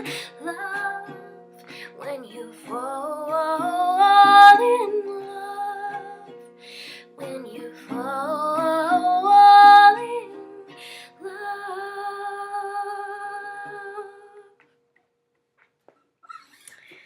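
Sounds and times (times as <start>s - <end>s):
woman singing: 0.0s - 14.6s
acoustic guitar: 0.0s - 14.8s.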